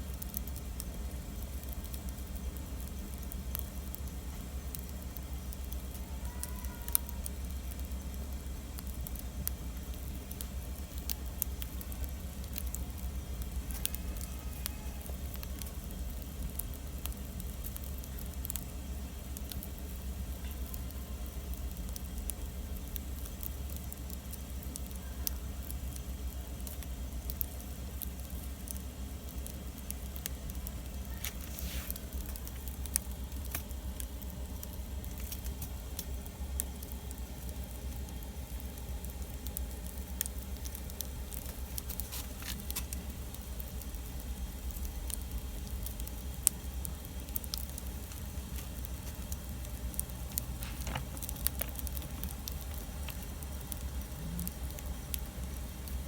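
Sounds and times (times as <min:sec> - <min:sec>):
campfire crackling and popping: 0:00.0 - 0:56.0
steady low rumble: 0:07.2 - 0:56.0.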